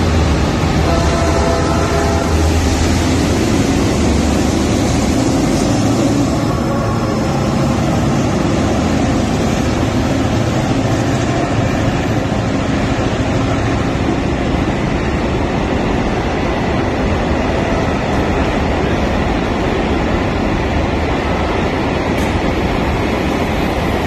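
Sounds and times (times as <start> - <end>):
freight train wheels rumbling on rail: 0.0 - 24.0.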